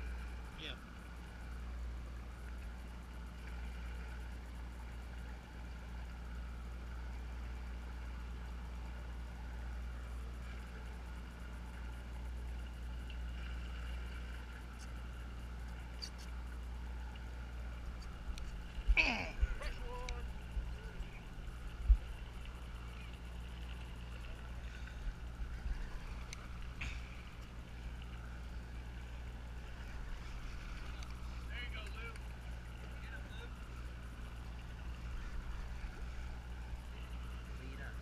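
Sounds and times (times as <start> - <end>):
boat machinery humming: 0.0 - 38.0.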